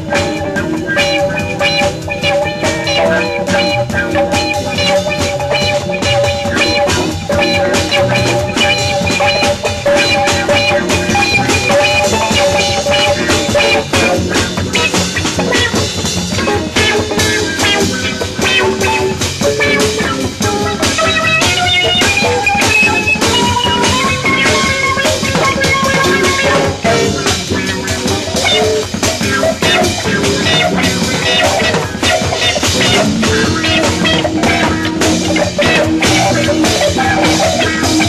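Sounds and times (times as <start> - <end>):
busy drum kit: 0.0 - 38.0
jazz ensemble playing: 0.0 - 38.0.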